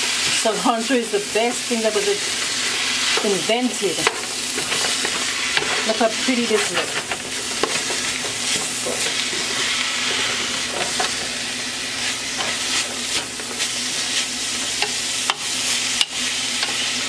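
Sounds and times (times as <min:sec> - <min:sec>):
vegetables sizzling in pot: 0:00.0 - 0:17.0.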